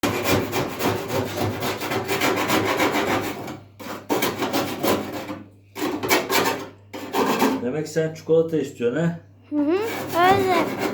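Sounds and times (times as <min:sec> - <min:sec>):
file scraping a surface: 0:00.0 - 0:07.7, 0:09.7 - 0:10.9.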